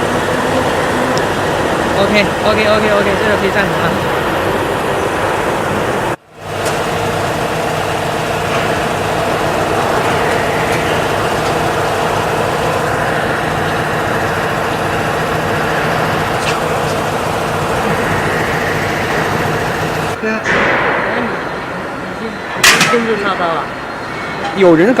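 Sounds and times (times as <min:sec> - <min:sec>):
workshop machinery drone: 0:00.0 - 0:25.0.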